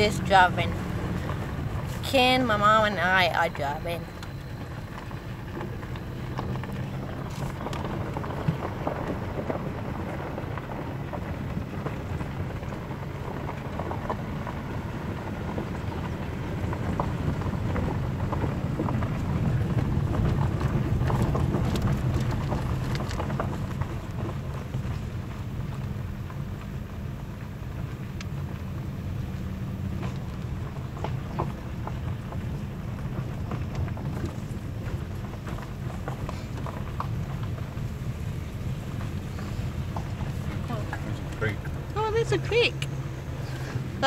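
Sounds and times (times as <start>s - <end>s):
car tyres rumbling on dirt road: 0.0s - 44.0s
small stones crackling under car: 0.0s - 44.0s.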